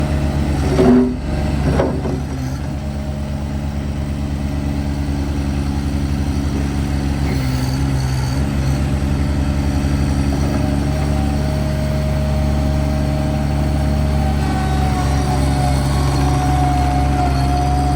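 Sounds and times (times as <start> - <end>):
skid steer loader engine running: 0.0 - 17.9.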